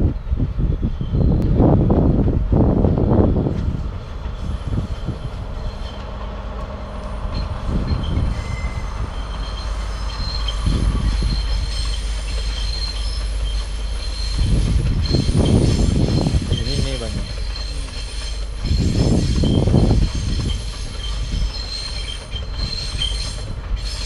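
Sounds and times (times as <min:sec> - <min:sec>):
train wheels squealing on rails: 0:00.0 - 0:02.2, 0:03.2 - 0:24.0
train low rumble: 0:00.0 - 0:24.0.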